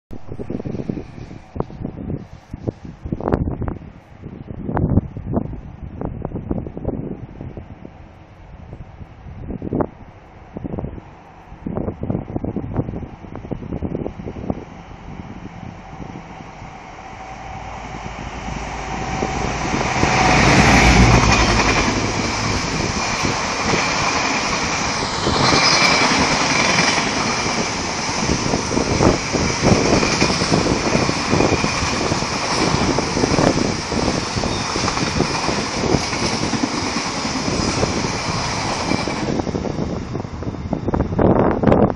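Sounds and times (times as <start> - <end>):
diesel locomotive passing: 6.6 - 41.9.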